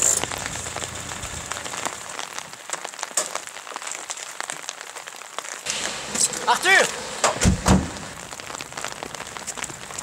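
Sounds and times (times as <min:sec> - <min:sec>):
rain on road and car: 0:00.0 - 0:10.0.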